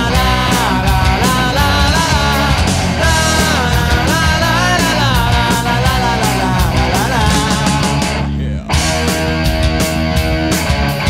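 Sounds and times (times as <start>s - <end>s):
bass guitar: 0.0s - 11.0s
drums and cymbals: 0.0s - 11.0s
lead electric guitar: 0.0s - 11.0s.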